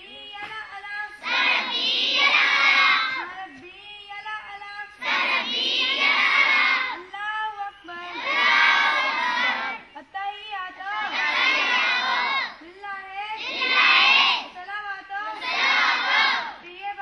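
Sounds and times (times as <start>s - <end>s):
girls singing in unison: 0.0s - 17.0s.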